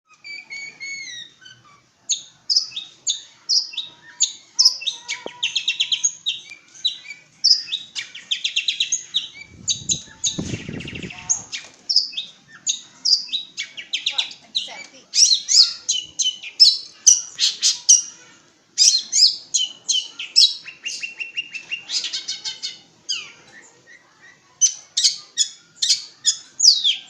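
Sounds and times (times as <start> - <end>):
bird chattering and trilling: 0.1 - 27.0.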